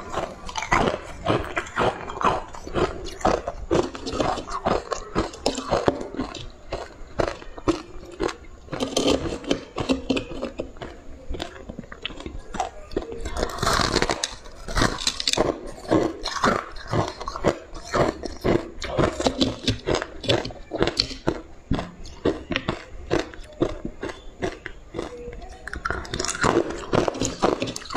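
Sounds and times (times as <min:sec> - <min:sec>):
crunching and chewing ice: 0:00.0 - 0:27.9.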